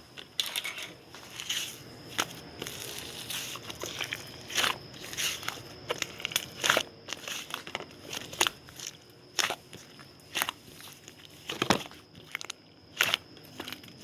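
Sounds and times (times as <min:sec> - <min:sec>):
crunchy snack chewing: 0:01.2 - 0:14.0.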